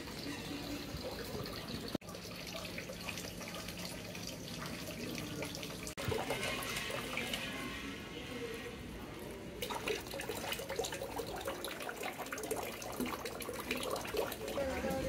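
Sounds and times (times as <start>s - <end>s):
water running into stone basin: 0.0s - 7.6s, 9.6s - 15.0s.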